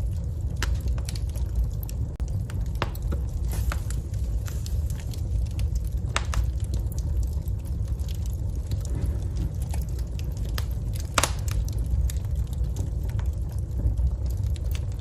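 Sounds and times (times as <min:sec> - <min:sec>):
crackles and pops of burning logs: 0:00.0 - 0:15.0
fire rumbling: 0:00.0 - 0:15.0.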